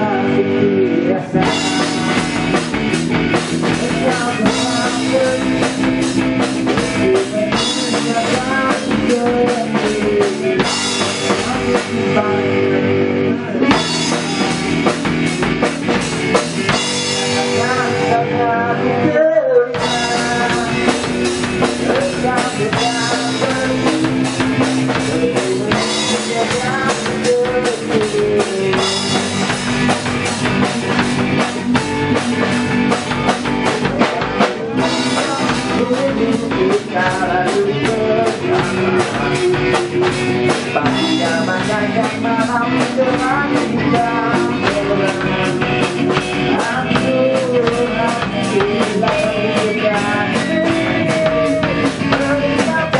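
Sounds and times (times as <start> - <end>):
rock band music: 0.0 - 52.9.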